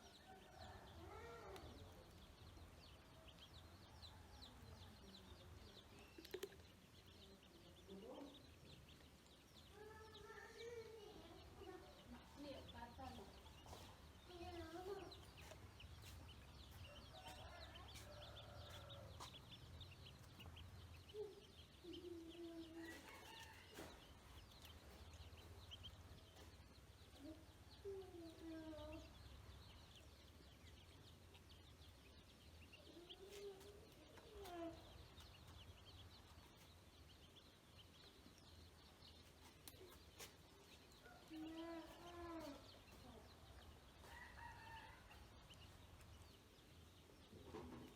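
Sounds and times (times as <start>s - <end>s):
ducklings peeping: 0.2s - 47.9s.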